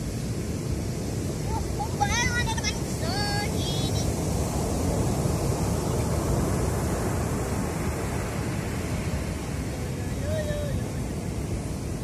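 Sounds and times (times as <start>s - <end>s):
heavy surf breaking: 0.0s - 12.0s.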